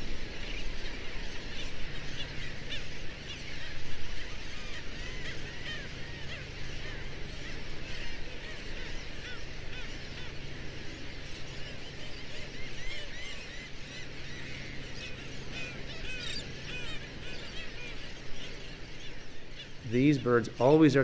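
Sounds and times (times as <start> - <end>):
birds calling in chorus: 0.0 - 21.0
steady low background noise: 0.0 - 21.0.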